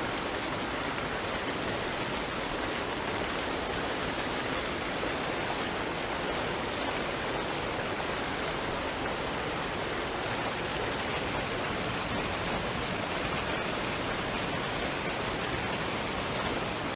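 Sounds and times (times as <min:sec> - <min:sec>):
waterfall and stream rushing: 0:00.0 - 0:16.9.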